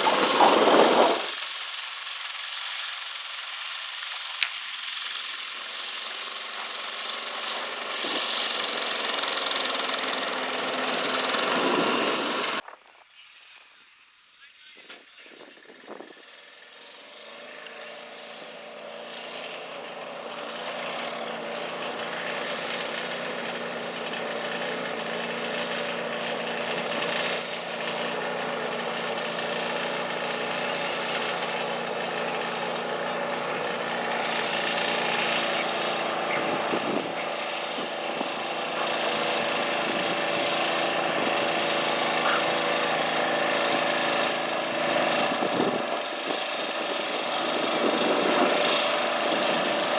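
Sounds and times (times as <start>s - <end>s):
garden tractor engine running: 0.0s - 49.9s.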